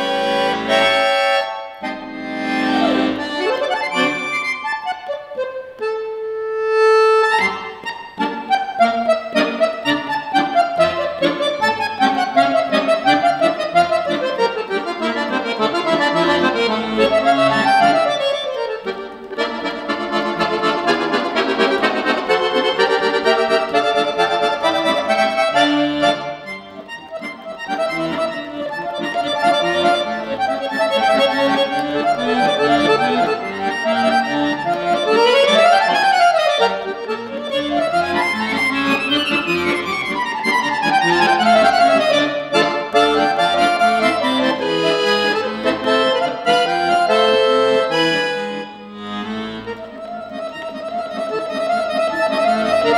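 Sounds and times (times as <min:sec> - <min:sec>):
solo accordion playing: 0:00.0 - 0:52.9.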